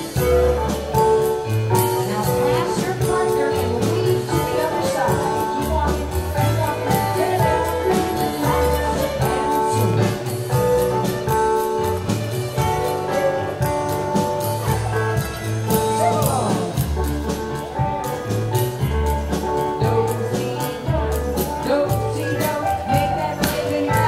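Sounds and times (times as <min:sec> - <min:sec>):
dance band playing: 0:00.0 - 0:24.0.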